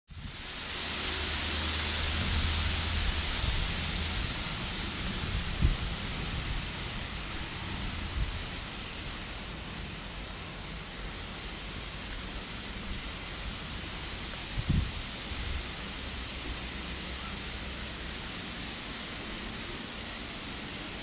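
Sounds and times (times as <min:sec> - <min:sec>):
steady outdoor hiss: 0:00.1 - 0:21.0.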